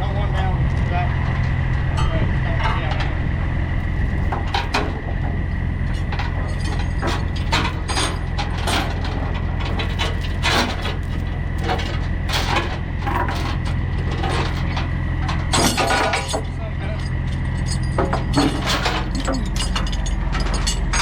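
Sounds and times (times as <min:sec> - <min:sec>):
steady low hum: 0:00.0 - 0:21.0
chain clanking and clicking: 0:03.8 - 0:21.0.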